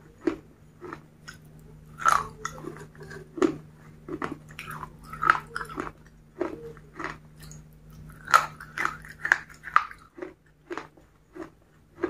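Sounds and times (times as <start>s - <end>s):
crisp chewing crunches: 0.2s - 12.0s.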